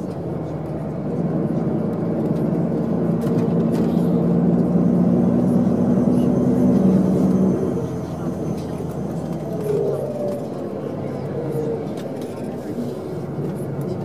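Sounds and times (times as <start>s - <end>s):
diesel engine hum: 0.0s - 14.0s
road noise: 0.0s - 14.0s.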